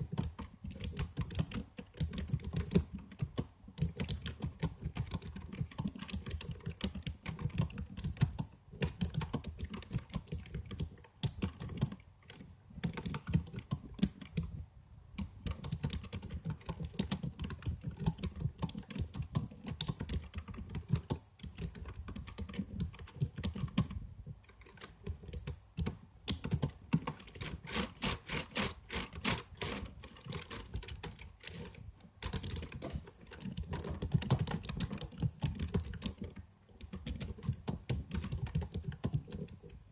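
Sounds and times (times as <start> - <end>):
keyboard typing clicks: 0.0 - 14.6, 15.2 - 39.8.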